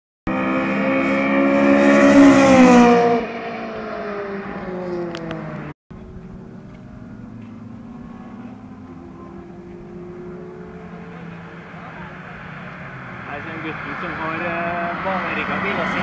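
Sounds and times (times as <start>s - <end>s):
car passing at speed: 0.3s - 16.0s
distant car engine: 0.3s - 16.0s.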